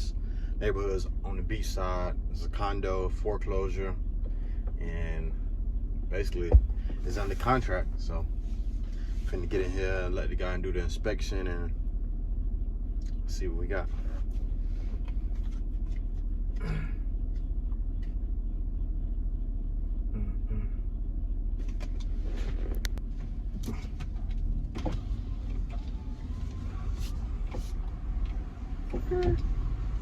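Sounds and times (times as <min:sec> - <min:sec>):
car engine from inside cabin: 0:00.0 - 0:30.0.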